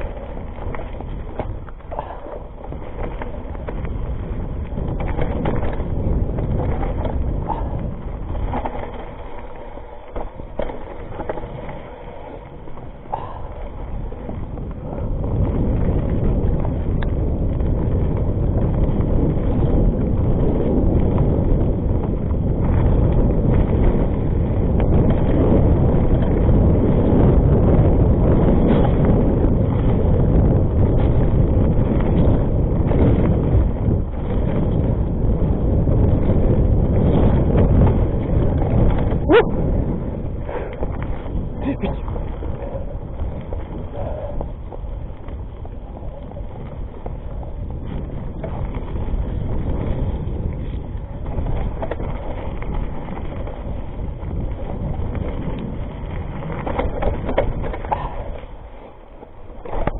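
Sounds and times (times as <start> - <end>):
bike rattling and knocking: 0.0 - 59.9
tyres rolling over dirt: 0.0 - 59.9
wind rushing over microphone: 0.0 - 59.9.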